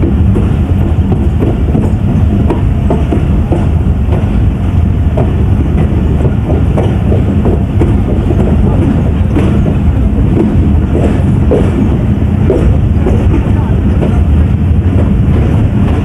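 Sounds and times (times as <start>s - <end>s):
rail clicks and clatter: 0.0s - 16.0s
train wheels rumbling on track: 0.0s - 16.0s.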